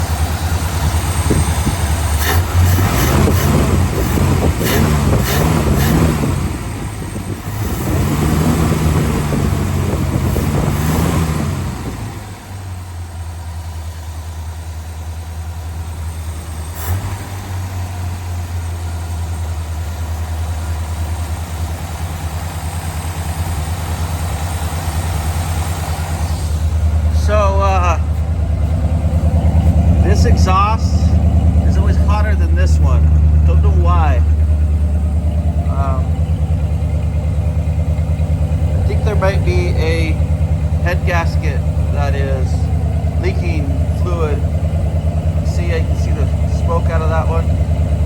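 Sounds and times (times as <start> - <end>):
car engine idling: 0.0 - 48.0
car engine revving: 0.0 - 48.0.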